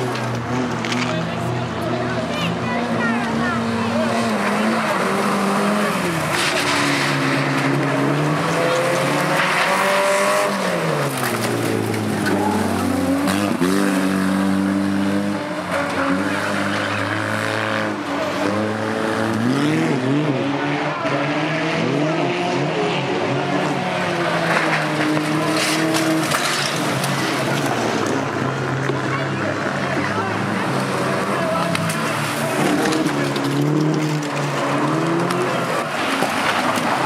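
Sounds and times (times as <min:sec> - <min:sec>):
race car engines running hard: 0:00.0 - 0:37.0.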